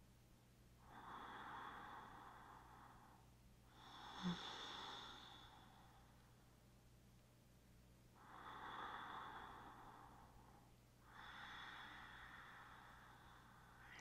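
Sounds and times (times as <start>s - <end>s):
person breathing deeply: 0.8s - 6.2s, 8.2s - 14.0s.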